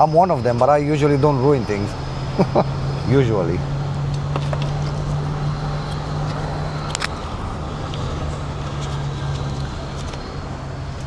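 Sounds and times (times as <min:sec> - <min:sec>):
vehicle engine humming: 0:00.0 - 0:11.0
faint clicks: 0:01.7 - 0:11.0.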